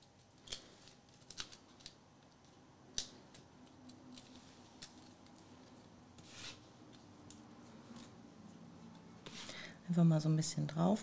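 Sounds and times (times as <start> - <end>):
soft paper rustle: 0.0 - 9.7.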